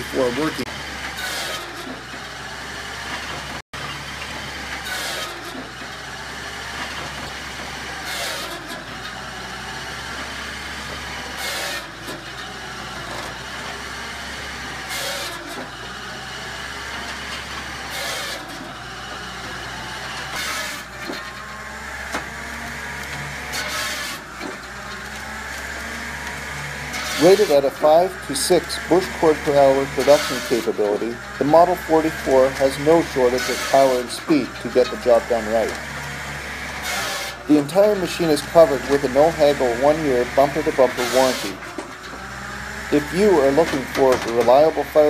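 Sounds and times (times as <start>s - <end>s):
saw and splitter working logs: 0.0s - 45.0s
tractor engine running: 0.0s - 45.0s.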